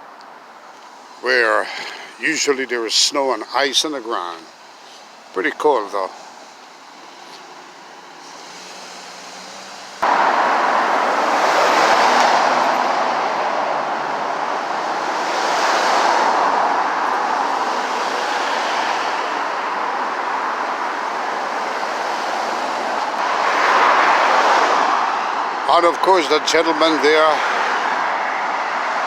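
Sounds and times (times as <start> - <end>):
cars going by: 0.0 - 29.0.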